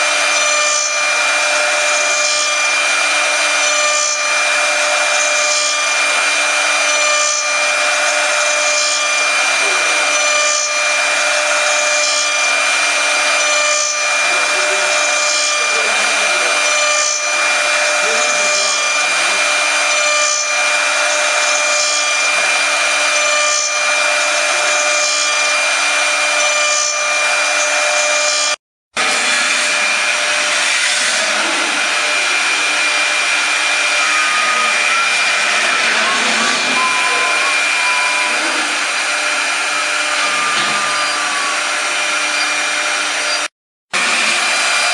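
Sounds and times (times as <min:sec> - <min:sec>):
cutters hissing through wood: 0:00.0 - 0:44.9
router spindles whining: 0:00.0 - 0:44.9.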